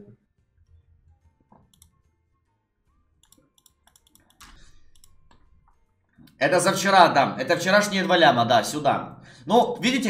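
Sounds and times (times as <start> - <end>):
soft music: 0.0 - 10.0.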